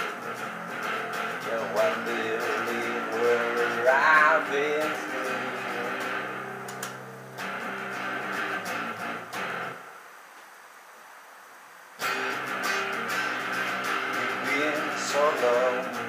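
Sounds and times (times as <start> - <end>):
electric guitar playing: 0.0 - 10.0, 12.0 - 16.0.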